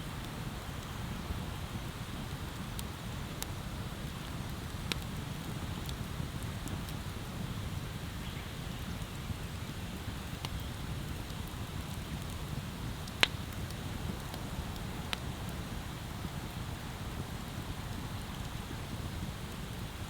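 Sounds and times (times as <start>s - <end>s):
bonfire burning: 0.0s - 20.0s
burning wood crackling and popping: 0.0s - 20.0s.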